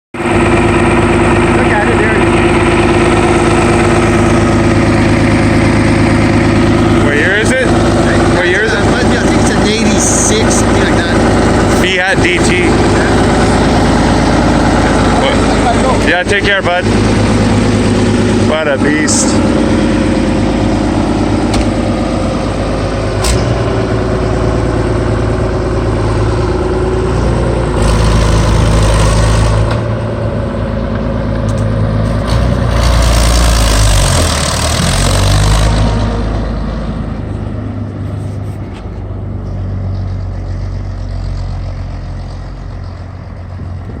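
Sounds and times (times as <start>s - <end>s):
tractor diesel engine revving: 0.2s - 44.0s.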